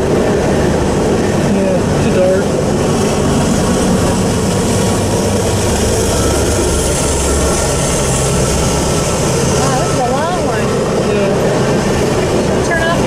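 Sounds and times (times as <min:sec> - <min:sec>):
locomotive rumble: 0:00.0 - 0:13.0.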